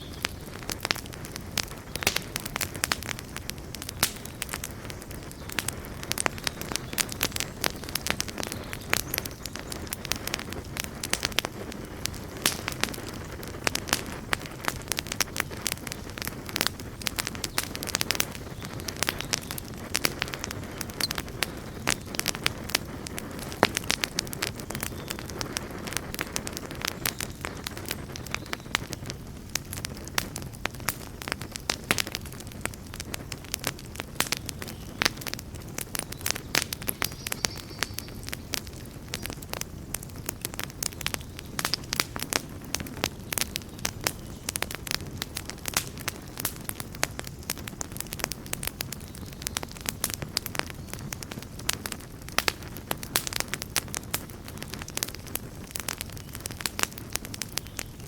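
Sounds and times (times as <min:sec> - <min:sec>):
burning wood crackling and popping: 0:00.0 - 0:58.0
campfire flames rushing: 0:00.0 - 0:58.0.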